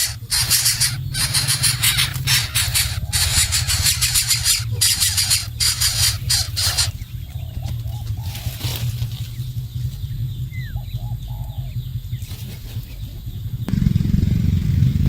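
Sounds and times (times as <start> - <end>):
short bird calls: 0.0 - 13.7
steady low rumble: 0.0 - 15.0.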